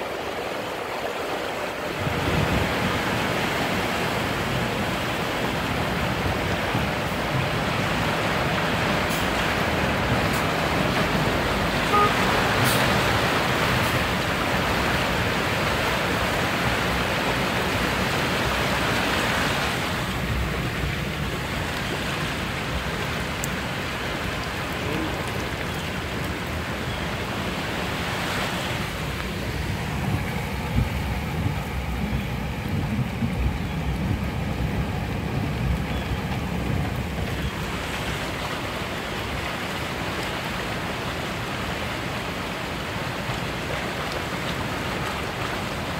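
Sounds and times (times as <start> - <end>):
floodwater splashing: 0.0 - 45.9
tyre and road noise: 0.0 - 45.9
wind rumble on microphone: 1.8 - 45.9.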